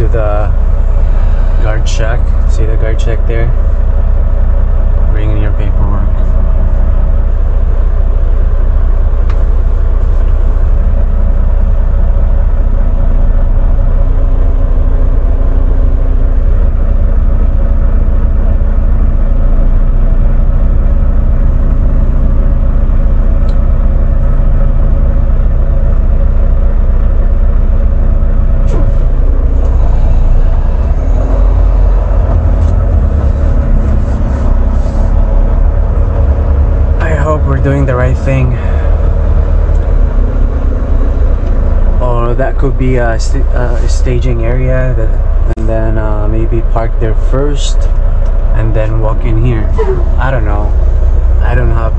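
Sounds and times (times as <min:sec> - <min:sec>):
truck diesel engine idling: 0:00.0 - 0:51.9.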